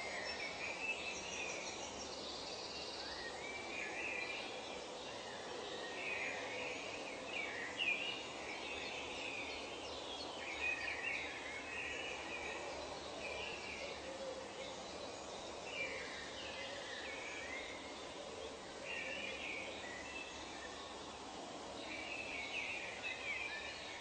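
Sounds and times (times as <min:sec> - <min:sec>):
background nature hiss: 0:00.0 - 0:24.0
birds chirping and warbling: 0:00.0 - 0:24.0.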